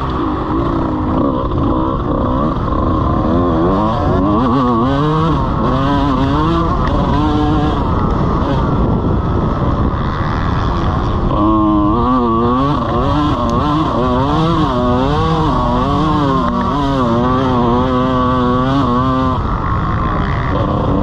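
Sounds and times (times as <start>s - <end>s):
motocross bike engine revving: 0.0s - 21.0s
wind noise: 0.0s - 21.0s.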